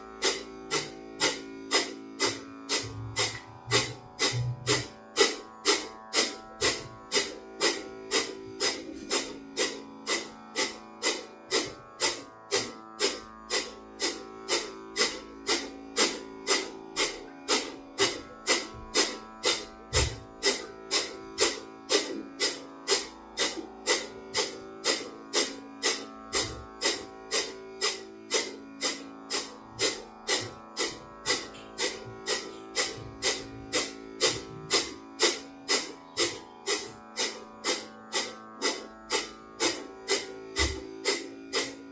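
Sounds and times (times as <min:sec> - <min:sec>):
soft instrumental music: 0:00.0 - 0:41.9.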